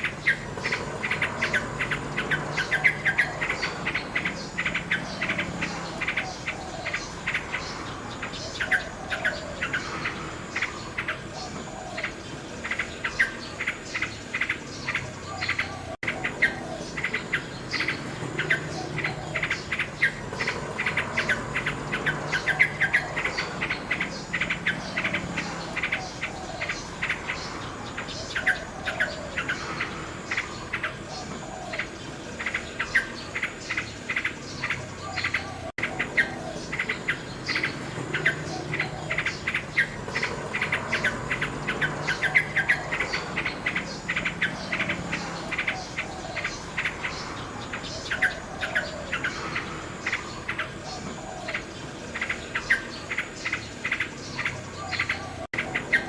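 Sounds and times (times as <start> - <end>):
insects chirping: 0.0 - 56.0
nightingale singing: 0.0 - 56.0.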